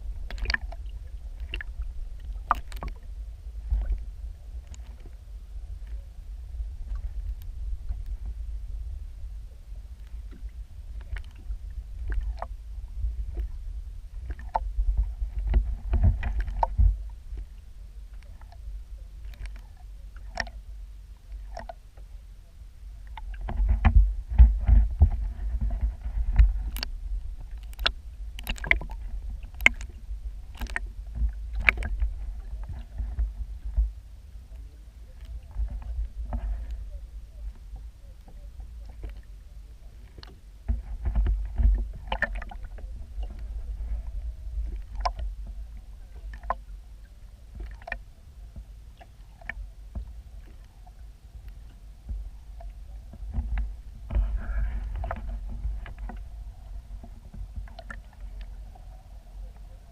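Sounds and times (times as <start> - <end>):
underwater low rumble: 0.0 - 59.9
sharp clicks and knocks underwater: 0.1 - 6.0, 6.8 - 8.5, 9.9 - 22.1, 23.0 - 59.9.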